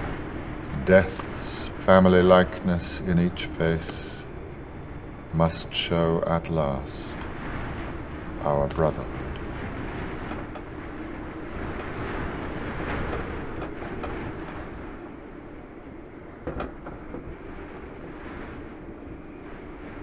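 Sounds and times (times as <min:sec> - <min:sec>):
low rumble of wind: 0:00.0 - 0:20.0.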